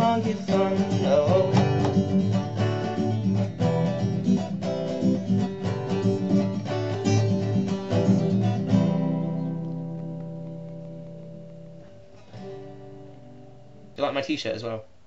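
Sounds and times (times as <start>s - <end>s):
acoustic guitar strumming: 0.0s - 14.4s.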